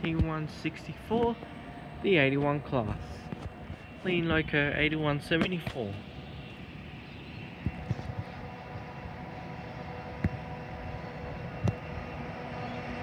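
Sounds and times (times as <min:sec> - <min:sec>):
distant locomotive engine rumble: 0:00.0 - 0:13.0
faint steady hum: 0:00.0 - 0:13.0.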